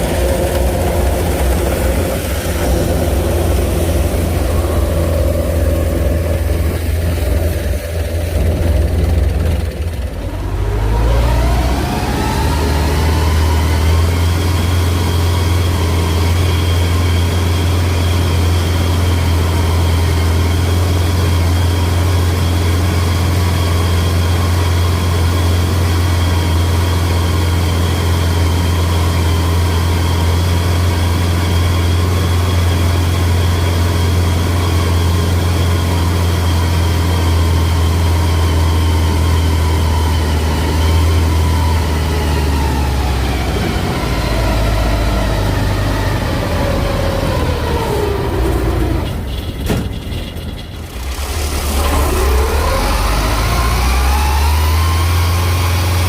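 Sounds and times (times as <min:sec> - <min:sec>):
high whine: 0:00.0 - 0:49.4, 0:50.6 - 0:56.0
machinery engine humming: 0:00.0 - 0:56.0.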